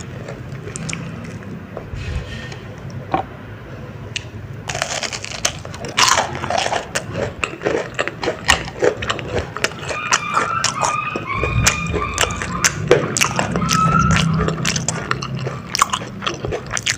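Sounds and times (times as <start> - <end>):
chewing crunchy food: 0.0 - 1.6, 4.2 - 16.9.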